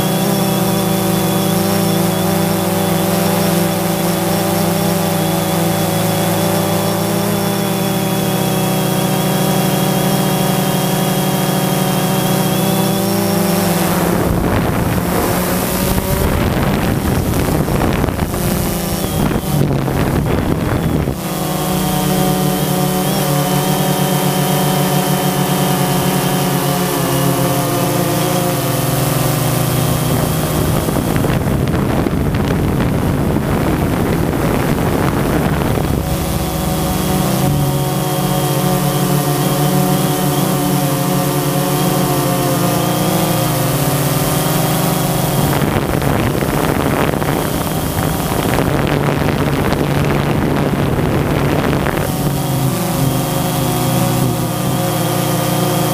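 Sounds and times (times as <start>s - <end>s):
drone motors humming and whining: 0.0s - 55.9s
wind noise: 0.0s - 55.9s.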